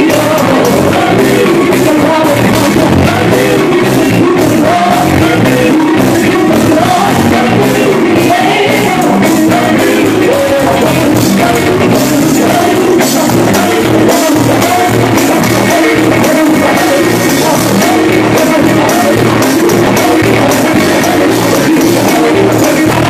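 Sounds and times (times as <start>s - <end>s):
band playing fast beat: 0.0s - 23.0s
men's vocal group singing: 0.0s - 23.0s.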